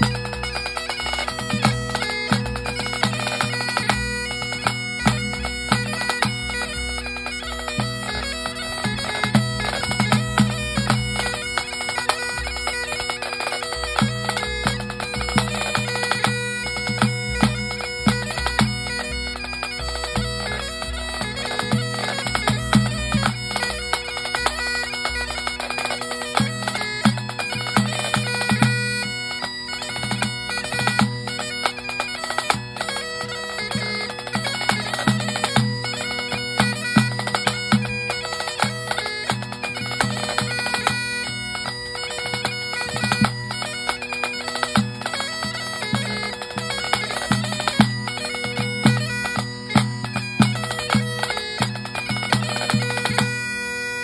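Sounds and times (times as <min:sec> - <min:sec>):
tenor drum beats: 0:00.0 - 0:53.4
bagpipe melody over drones: 0:00.0 - 0:54.0.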